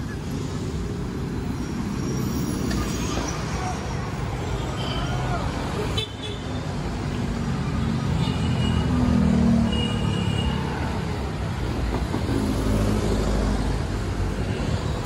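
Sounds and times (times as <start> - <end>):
cars and motorcycles passing: 0.0 - 15.0.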